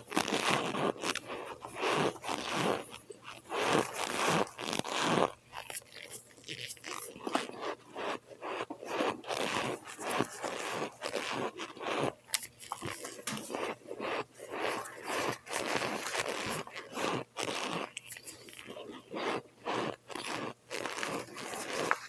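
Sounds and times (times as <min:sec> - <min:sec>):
crunching bites and chewing: 0:00.0 - 0:22.0.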